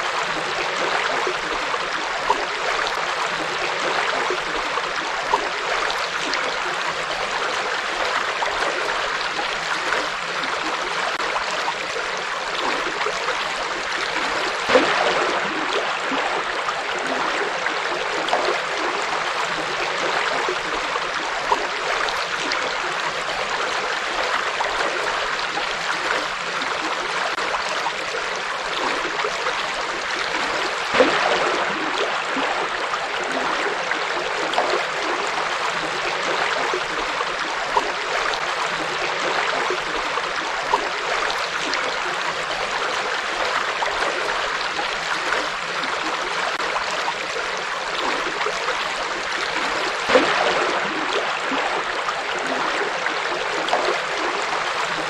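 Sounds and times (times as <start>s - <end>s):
river water flowing: 0.0s - 55.0s
water splashes: 0.0s - 55.0s.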